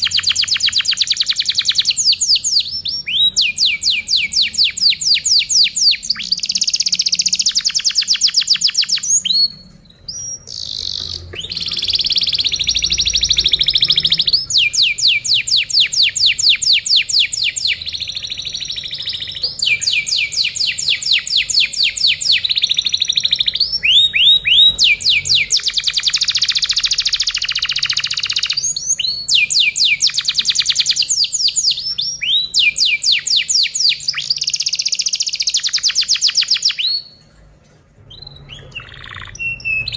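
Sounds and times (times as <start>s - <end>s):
canary singing trills: 0.0s - 37.3s, 38.0s - 39.9s.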